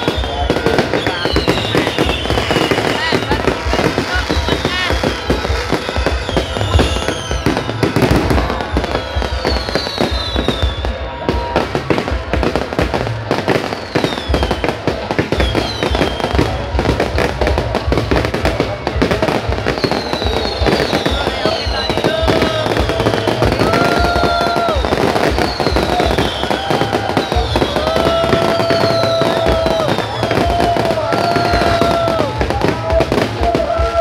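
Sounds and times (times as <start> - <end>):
firework bangs and crackling: 0.0 - 34.0
firework whistles: 0.0 - 34.0
music: 0.0 - 34.0.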